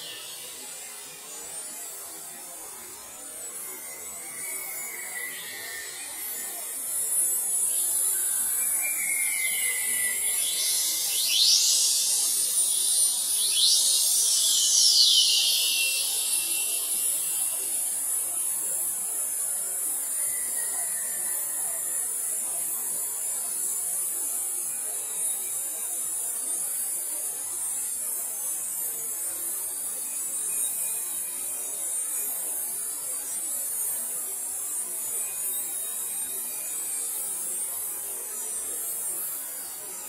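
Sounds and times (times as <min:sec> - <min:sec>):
high-pitched electronic hiss: 0:00.0 - 0:40.0.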